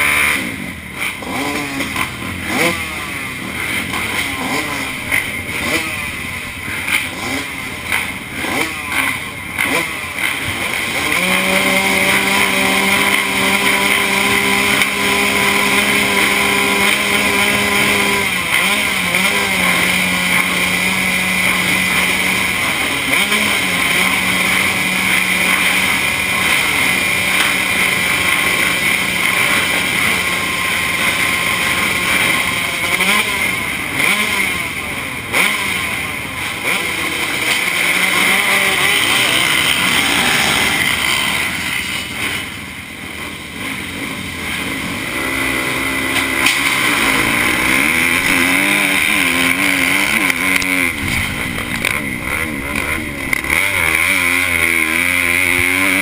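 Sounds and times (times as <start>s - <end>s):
motocross engines idling and revving: 0.0s - 56.0s
motorbikes at full throttle: 0.0s - 56.0s.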